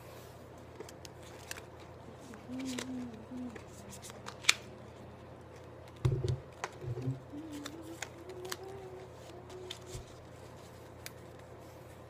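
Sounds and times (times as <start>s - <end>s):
playing cards shuffling: 0.7s - 4.7s, 5.5s - 11.6s.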